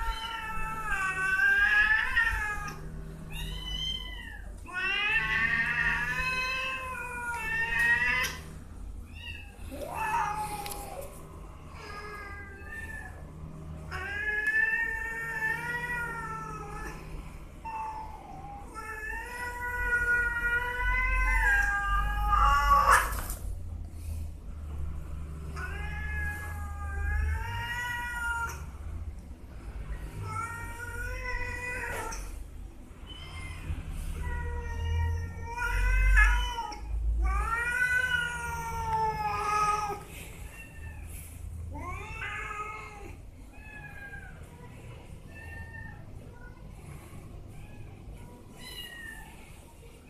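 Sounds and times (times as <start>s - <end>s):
cats yowling: 0.0s - 23.4s, 25.4s - 28.8s, 29.8s - 32.4s, 33.0s - 44.5s.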